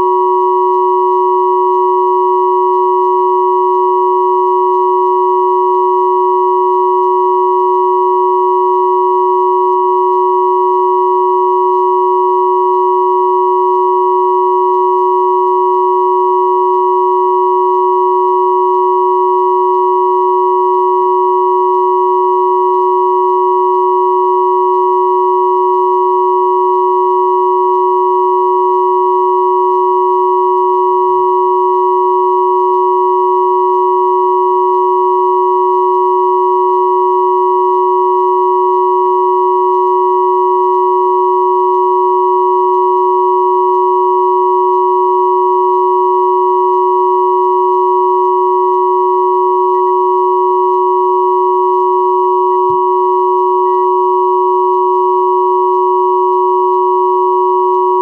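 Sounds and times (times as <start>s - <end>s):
steady sine tone hum: 0.0s - 58.0s.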